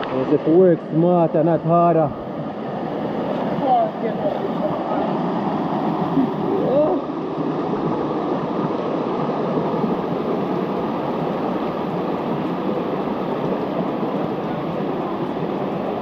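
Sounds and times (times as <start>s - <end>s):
waterfall rushing water: 0.0s - 16.0s.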